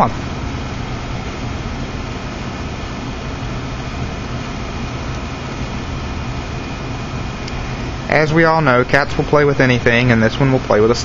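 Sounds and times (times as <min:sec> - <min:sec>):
mechanical drone: 0:00.0 - 0:11.0.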